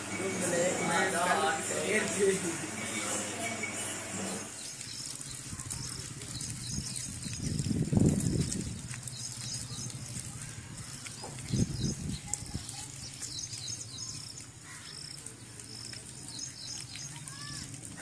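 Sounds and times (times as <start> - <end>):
small birds chirping: 0.0 - 18.0
steady outdoor background noise: 0.0 - 18.0.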